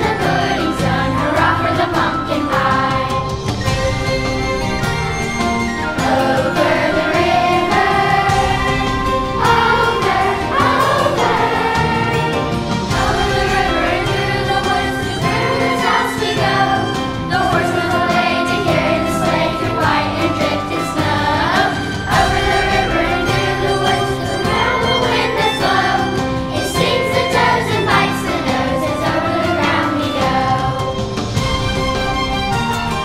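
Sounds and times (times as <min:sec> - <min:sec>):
children's choir singing: 0:00.0 - 0:33.0
instrumental accompaniment: 0:00.0 - 0:33.0.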